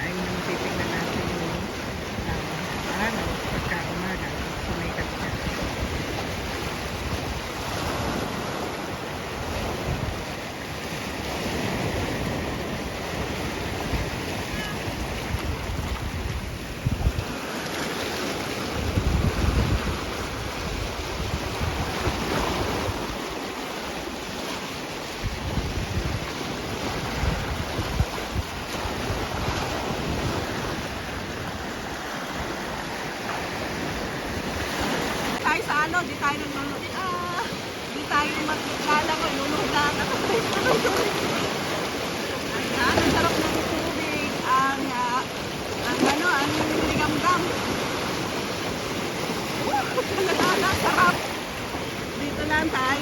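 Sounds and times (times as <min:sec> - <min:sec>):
sea waves washing in: 0:00.0 - 0:53.0
wind buffeting microphone: 0:00.0 - 0:53.0.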